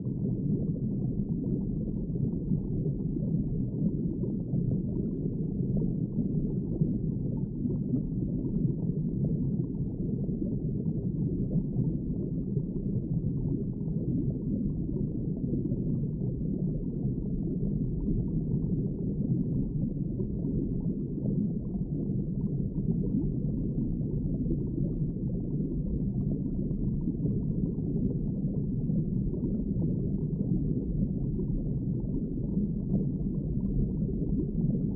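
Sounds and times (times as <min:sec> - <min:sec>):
muffled underwater rush: 0:00.0 - 0:34.9.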